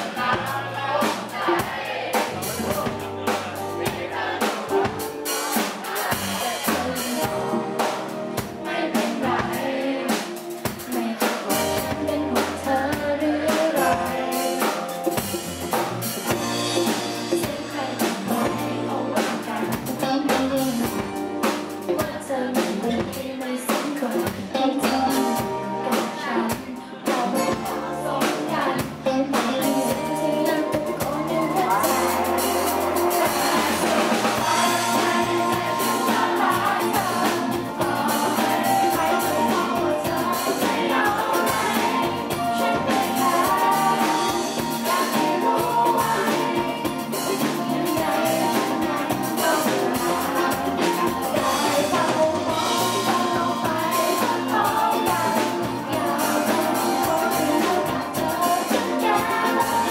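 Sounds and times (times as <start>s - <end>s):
drum kit played with sticks: 0.0s - 59.9s
woman singing into a microphone: 9.0s - 14.8s, 17.1s - 59.9s.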